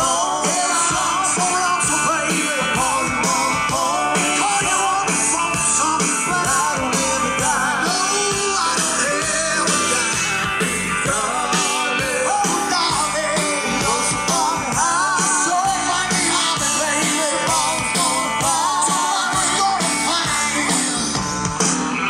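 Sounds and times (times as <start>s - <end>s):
rock and roll band through loudspeakers: 0.0s - 22.0s.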